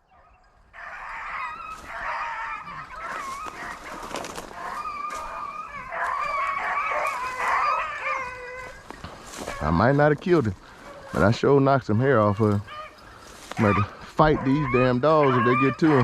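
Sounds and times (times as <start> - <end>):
hounds baying in chorus: 0.0 - 16.0.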